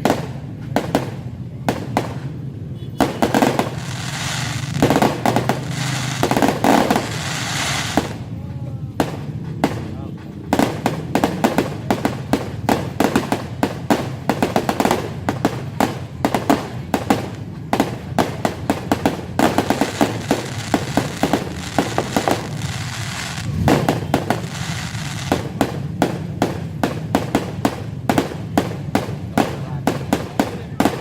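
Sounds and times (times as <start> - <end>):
fireworks bangs and cracks: 0.0 - 31.0
fireworks hissing crackle: 0.0 - 31.0.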